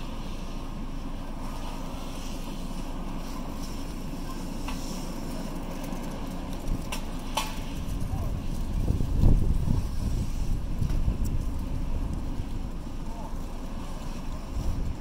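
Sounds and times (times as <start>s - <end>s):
fire engine pump rumbling: 0.0s - 15.0s.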